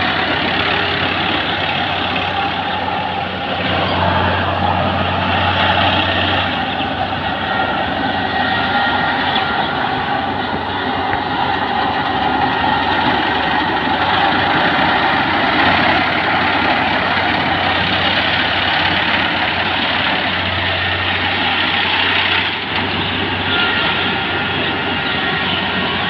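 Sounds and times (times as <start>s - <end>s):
combine harvester engine running: 0.0s - 26.0s.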